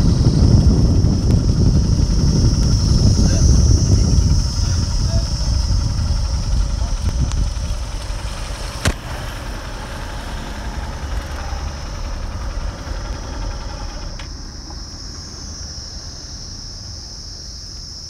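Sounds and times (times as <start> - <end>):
motorcycle engine running: 0.0 - 17.6
high insect drone: 0.0 - 18.0
wind rumble on microphone: 0.0 - 18.0.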